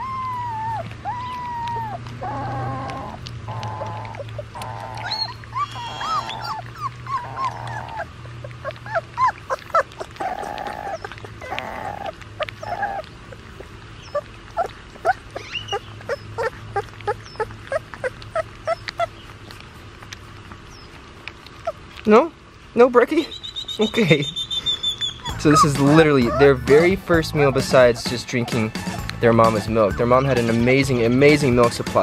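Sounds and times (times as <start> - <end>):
puppies whining: 0.0 - 22.3, 23.1 - 32.0.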